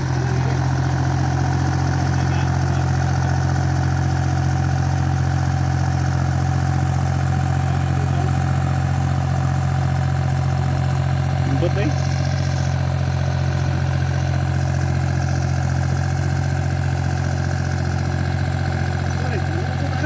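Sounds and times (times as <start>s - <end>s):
backhoe engine droning: 0.0s - 20.0s.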